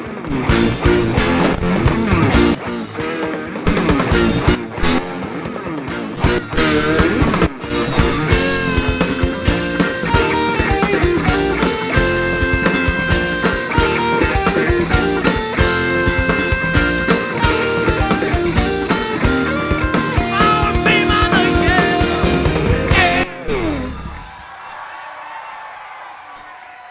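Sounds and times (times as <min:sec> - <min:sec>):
rock band playing live: 0:00.0 - 0:24.6
drum kit: 0:00.3 - 0:05.2, 0:06.2 - 0:24.9
electric guitar lead bending notes: 0:00.3 - 0:24.3.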